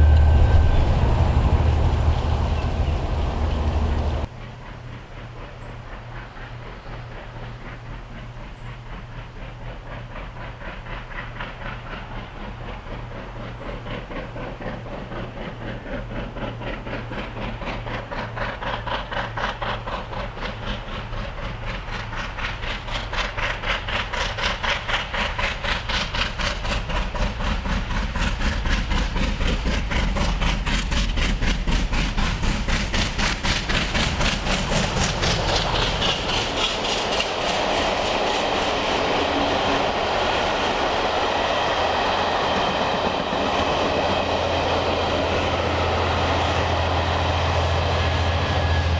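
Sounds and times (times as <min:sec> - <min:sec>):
steam locomotive exhaust beats: 0:00.0 - 0:48.9
train noise: 0:00.0 - 0:48.9.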